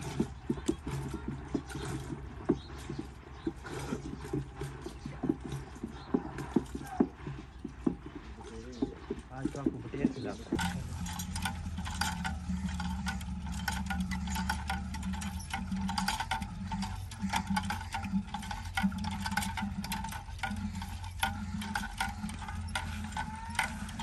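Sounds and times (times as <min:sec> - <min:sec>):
butter churn sloshing and knocking: 0:00.0 - 0:24.0.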